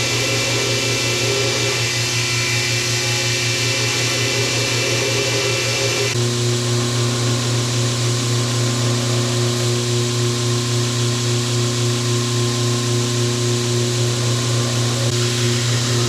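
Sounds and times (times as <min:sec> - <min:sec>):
power tool motor humming: 0:00.0 - 0:10.4, 0:13.0 - 0:16.0.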